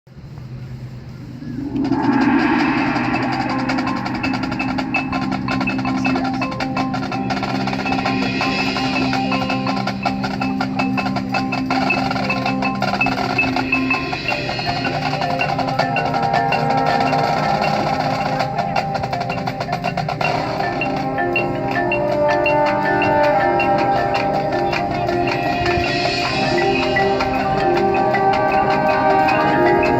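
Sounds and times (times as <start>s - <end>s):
marching band playing: 1.3s - 29.9s
rapid percussion strikes: 1.3s - 29.9s
mallet percussion: 1.4s - 29.9s.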